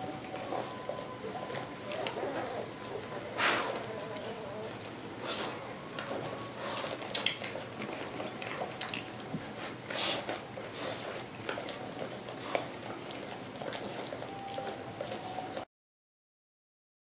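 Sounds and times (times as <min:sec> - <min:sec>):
puppies scuffling and biting: 0:00.0 - 0:15.6.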